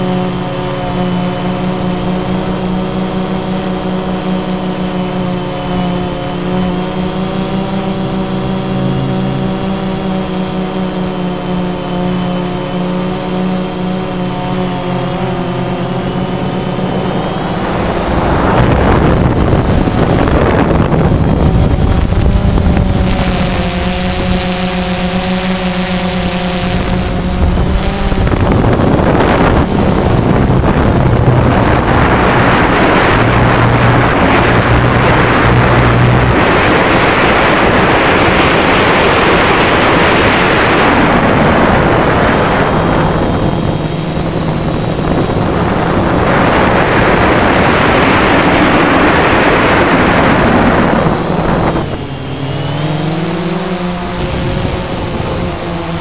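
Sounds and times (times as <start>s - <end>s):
drone propellers buzzing: 0.0s - 56.0s
wind noise on microphone: 0.0s - 56.0s.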